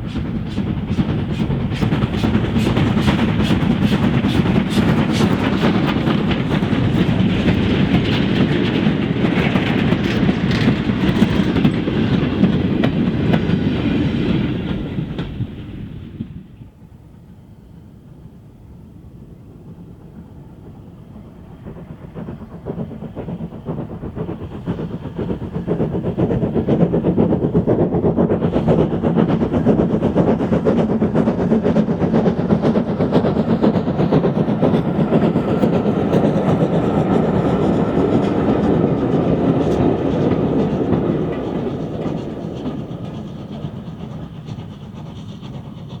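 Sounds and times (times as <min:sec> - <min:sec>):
steam train passing: 0:00.0 - 0:46.0.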